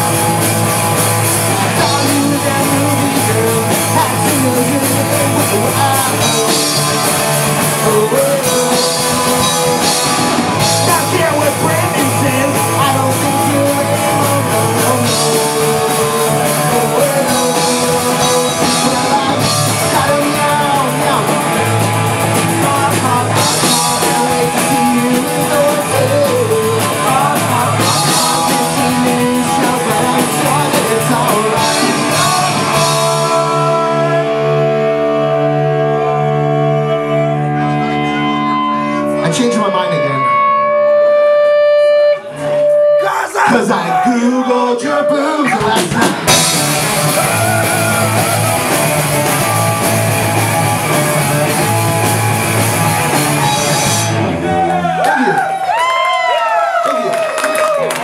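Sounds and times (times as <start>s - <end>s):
live pop-punk band playing: 0.0s - 58.0s
person singing: 1.4s - 50.2s.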